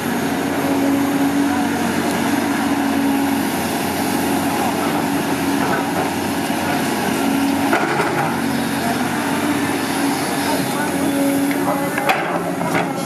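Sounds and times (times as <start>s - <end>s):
excavator diesel engine running: 0.0s - 13.0s
engine clatter: 0.9s - 13.0s.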